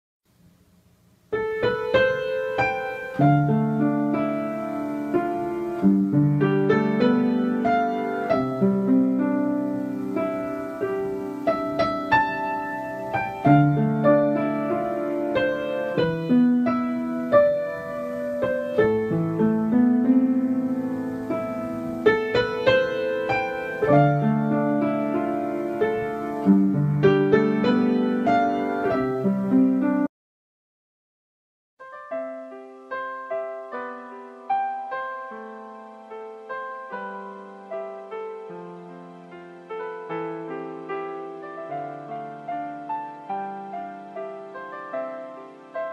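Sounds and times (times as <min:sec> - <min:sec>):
gentle piano music: 0:01.2 - 0:30.1, 0:31.8 - 0:45.9.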